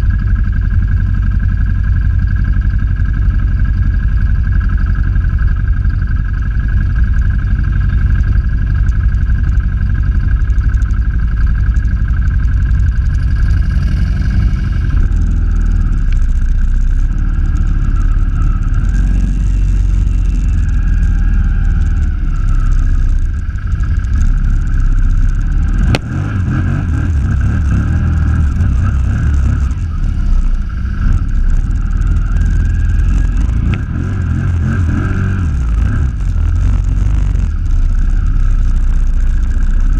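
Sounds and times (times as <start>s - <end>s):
quad engine running under load: 0.0s - 39.9s.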